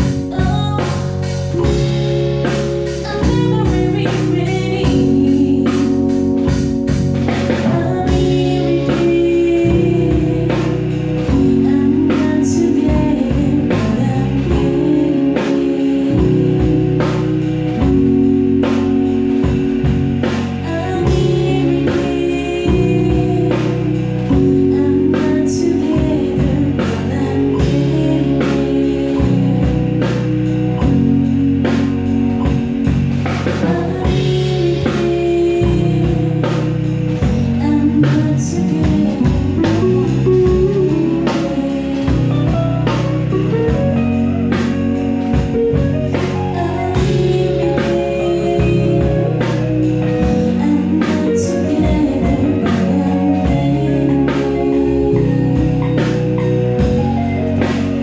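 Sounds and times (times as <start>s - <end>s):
drum kit beat: 0.0s - 58.0s
electric guitar: 0.0s - 58.0s
woman singing: 0.0s - 58.0s.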